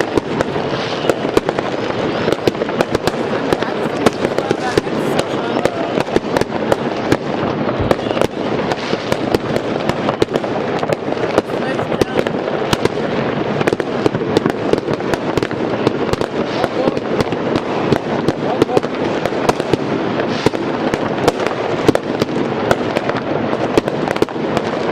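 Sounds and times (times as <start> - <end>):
fireworks and firecrackers: 0.0 - 24.9.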